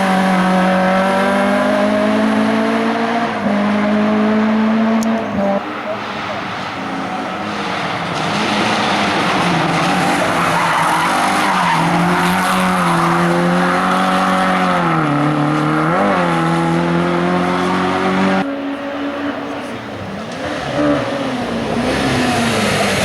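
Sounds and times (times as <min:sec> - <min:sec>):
race car engine revving hard: 0:00.0 - 0:23.0.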